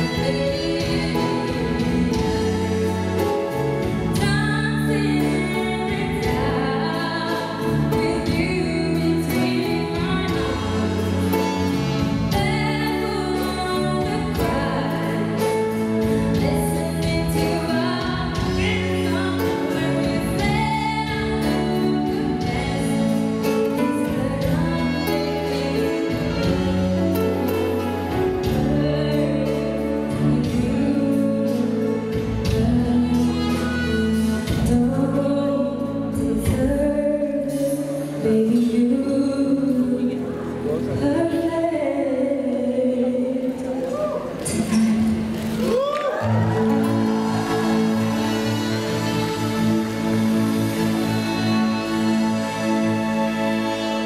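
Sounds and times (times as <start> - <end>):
woman singing into microphone: 0.0 - 45.2
amplified instrumental music: 0.0 - 54.0.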